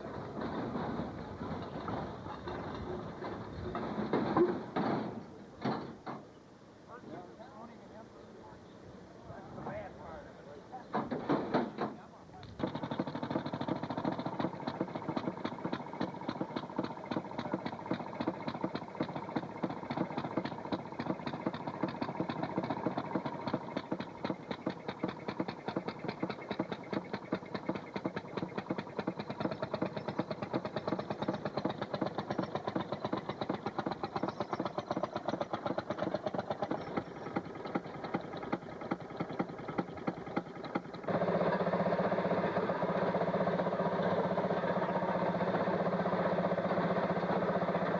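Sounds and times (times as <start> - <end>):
two-stroke engine popping: 0.0 - 6.2, 10.9 - 47.9.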